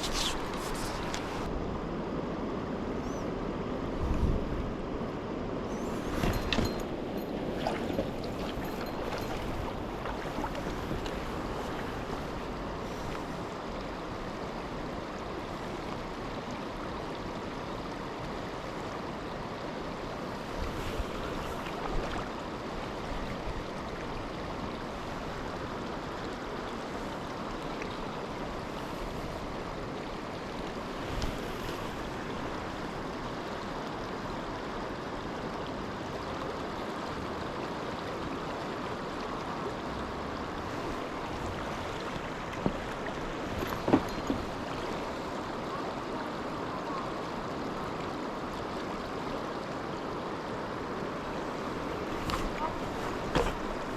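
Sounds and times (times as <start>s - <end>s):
river rushing over rocks: 4.7s - 53.9s.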